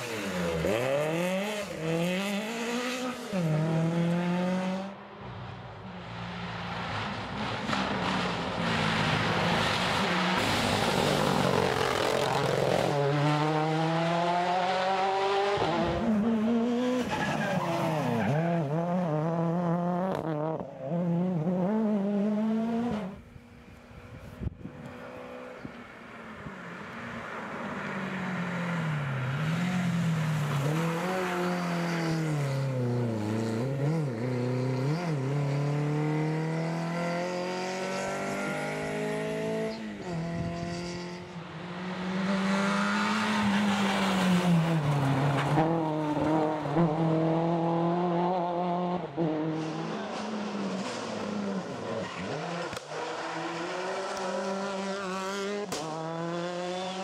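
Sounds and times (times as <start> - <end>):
rally car engines revving: 0.0 - 5.0, 6.1 - 57.0.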